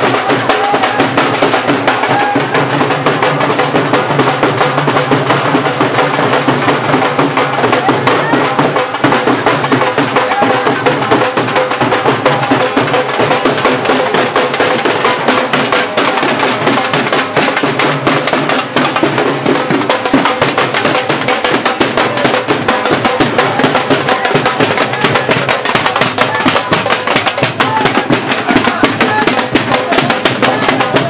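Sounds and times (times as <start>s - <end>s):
fast dhol drumming: 0.0s - 31.0s.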